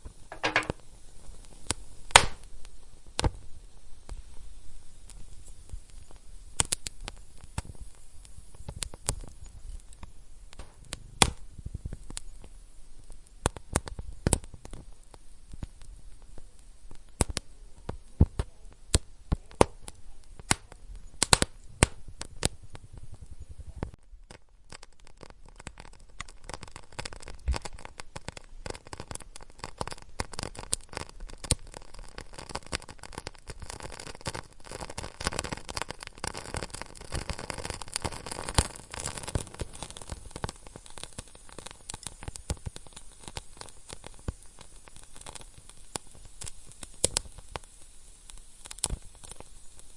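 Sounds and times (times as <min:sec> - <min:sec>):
sharp pops from fire: 0:00.0 - 0:49.9
wood fire crackling: 0:00.0 - 0:49.9.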